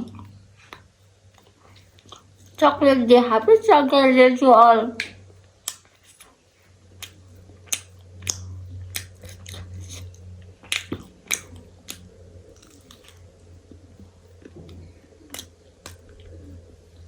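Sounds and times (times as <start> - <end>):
chewing chocolate with nuts: 0.0 - 2.6, 5.0 - 17.0.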